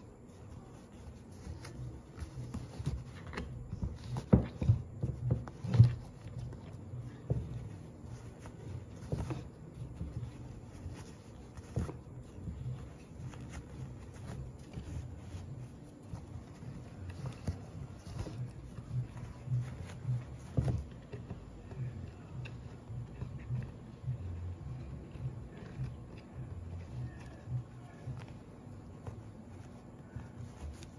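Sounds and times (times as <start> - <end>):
fabric rustling: 0.0 - 30.9
light knocks and taps: 1.4 - 30.9.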